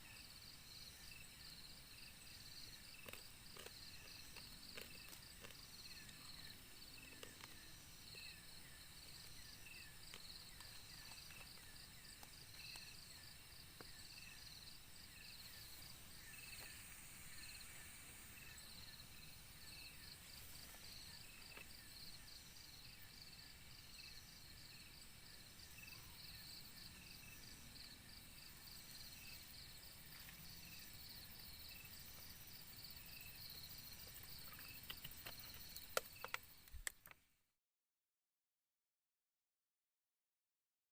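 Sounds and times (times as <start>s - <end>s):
insects trilling: 0.0s - 37.2s
low insect chirp: 0.0s - 37.3s.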